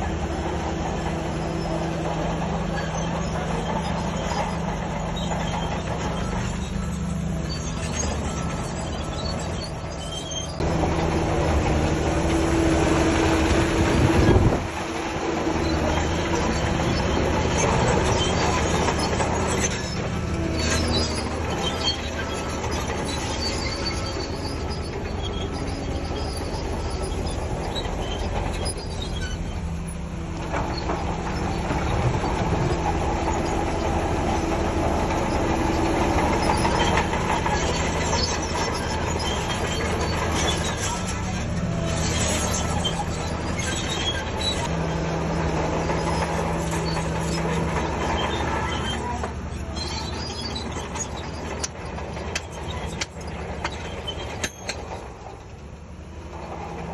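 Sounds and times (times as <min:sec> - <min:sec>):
bulldozer diesel engine running: 0:00.0 - 0:56.9
steel tracks clanking: 0:00.0 - 0:56.9.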